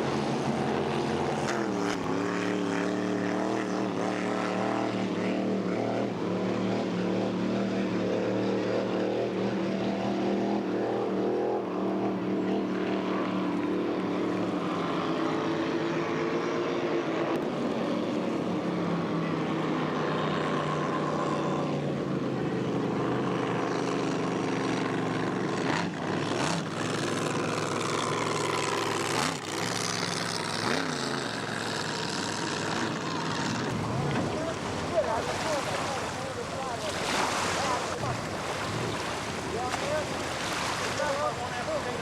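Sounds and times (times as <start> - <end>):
racing boat engines: 0.0 - 42.0.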